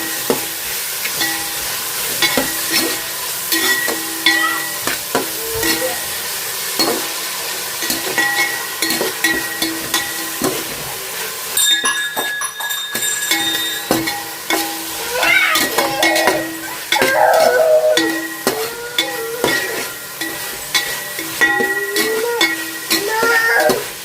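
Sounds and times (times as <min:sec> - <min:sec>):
food sizzling in a pan: 0:00.0 - 0:24.0
spoon scraping a pan: 0:00.1 - 0:10.8, 0:12.9 - 0:23.9.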